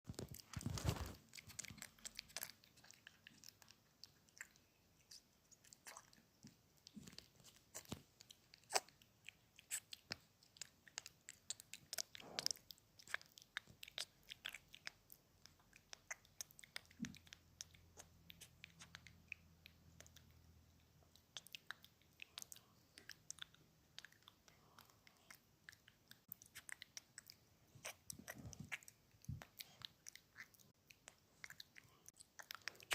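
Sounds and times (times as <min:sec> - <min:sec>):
faint crunching and clicking: 0:00.1 - 0:32.9.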